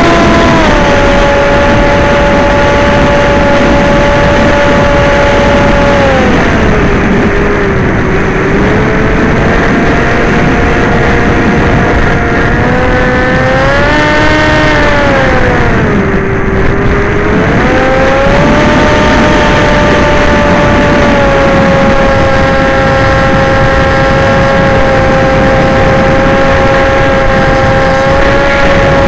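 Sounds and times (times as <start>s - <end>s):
model aircraft motors whining: 0.0s - 29.0s
wind rush: 0.0s - 29.0s.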